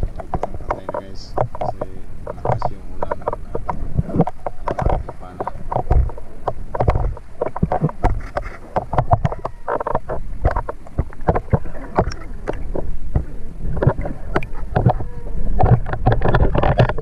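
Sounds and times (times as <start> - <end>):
underwater clicking and crackling: 0.0 - 17.0
underwater water noise: 0.0 - 17.0.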